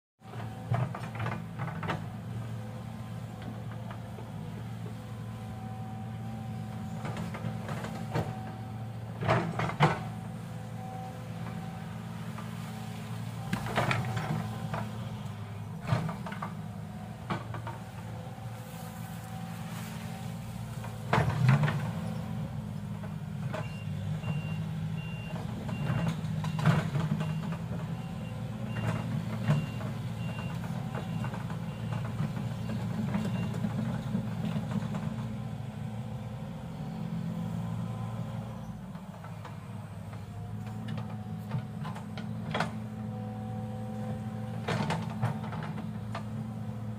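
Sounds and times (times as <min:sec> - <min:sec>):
diesel engine running: 0:00.2 - 0:46.9.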